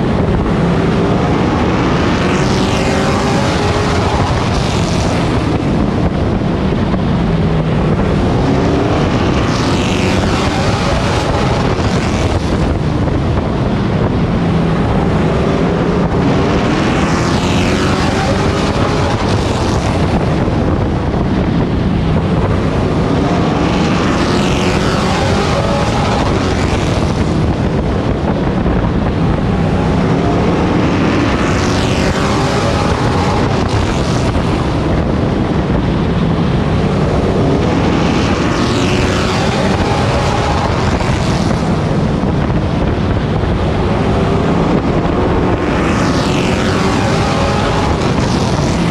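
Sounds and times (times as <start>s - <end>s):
race truck engine: 0.0s - 48.9s
wind noise on microphone: 0.0s - 48.9s.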